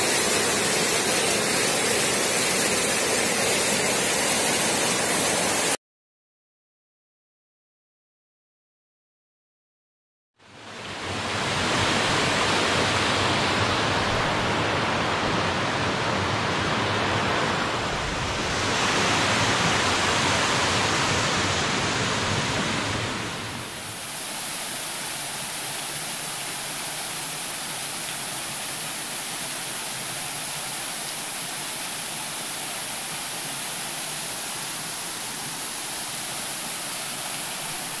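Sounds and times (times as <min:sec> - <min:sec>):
waterfall rushing and splashing: 0:00.0 - 0:05.8, 0:10.5 - 0:38.0.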